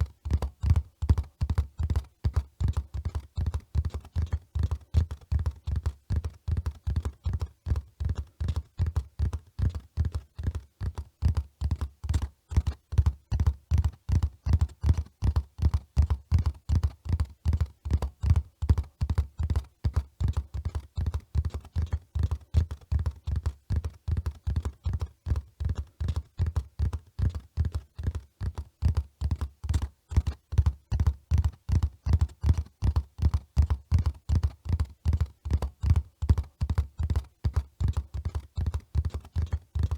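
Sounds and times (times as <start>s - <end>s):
horse hoofbeats at a run: 0.0s - 39.9s.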